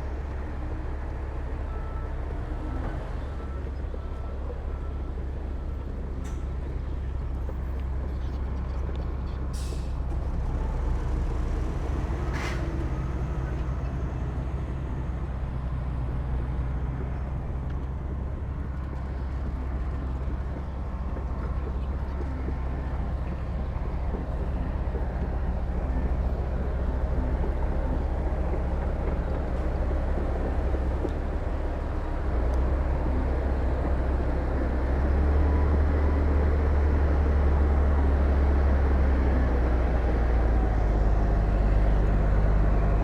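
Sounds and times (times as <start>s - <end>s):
heavy diesel machinery droning: 0.0s - 43.0s.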